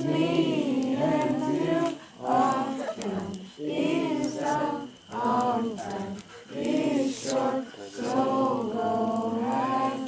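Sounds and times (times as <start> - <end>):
voices singing: 0.0 - 10.0.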